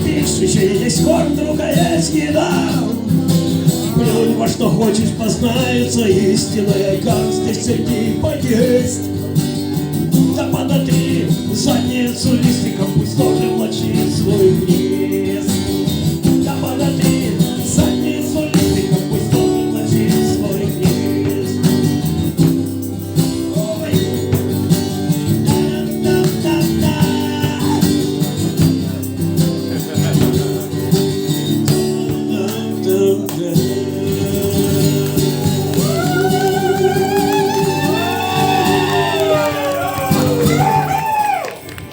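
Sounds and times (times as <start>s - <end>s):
acoustic guitar strumming: 0.0s - 41.7s.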